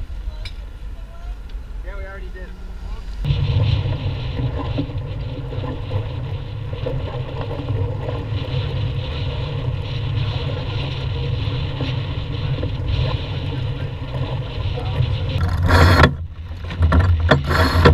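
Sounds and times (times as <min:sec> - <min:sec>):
water rushing along boat hull: 0:00.0 - 0:17.9
wind buffeting microphone: 0:00.0 - 0:17.9.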